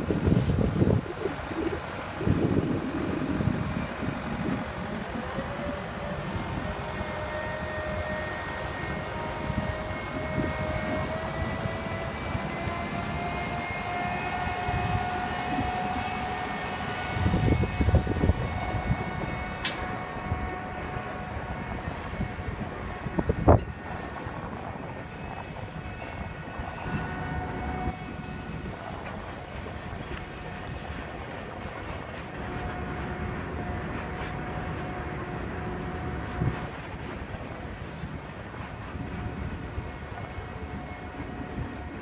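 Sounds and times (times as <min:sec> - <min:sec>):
boom lift mechanical whine: 0:00.0 - 0:42.0
wind on microphone: 0:00.0 - 0:42.0.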